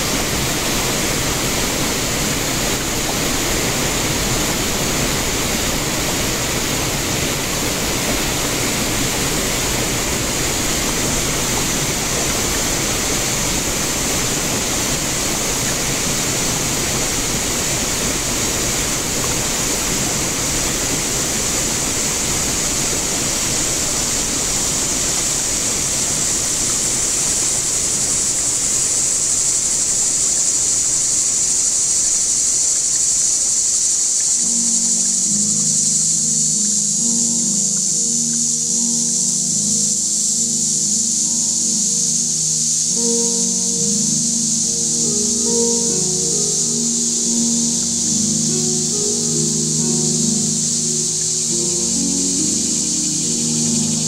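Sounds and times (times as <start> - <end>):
high insect drone: 0.0 - 54.0
river water rushing over riffles: 0.0 - 54.0.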